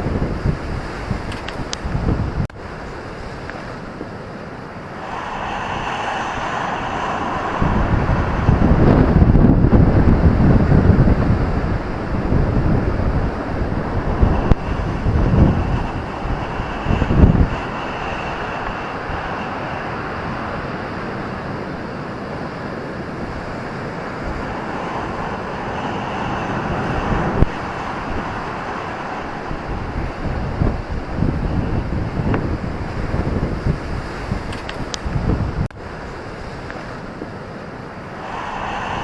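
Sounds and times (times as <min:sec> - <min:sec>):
ocean surf breaking: 0:00.0 - 0:39.0
wind buffeting microphone: 0:00.0 - 0:39.0.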